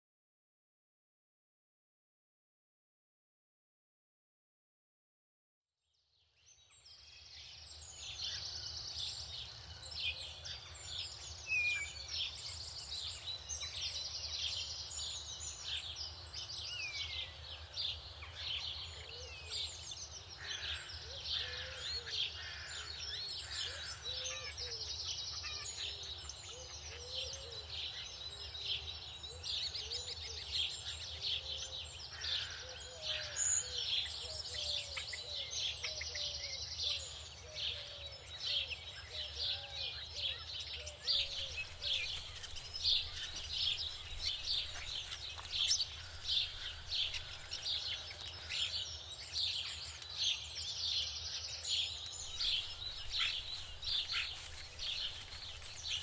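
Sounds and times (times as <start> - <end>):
birds chirping and trilling: 6.2 - 56.0.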